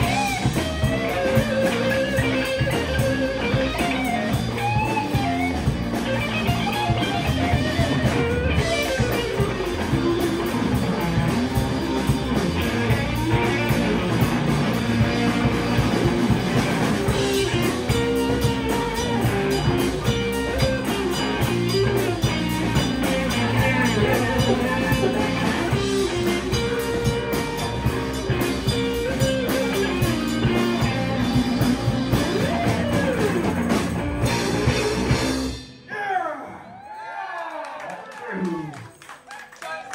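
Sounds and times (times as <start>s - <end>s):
electric guitars: 0.0s - 35.8s
drum kit: 0.0s - 36.0s.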